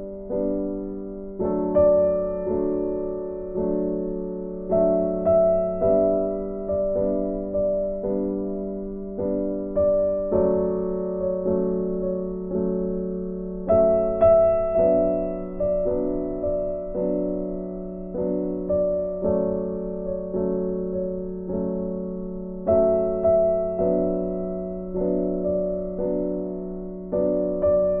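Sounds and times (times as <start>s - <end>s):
slow keyboard melody: 0.0s - 28.0s.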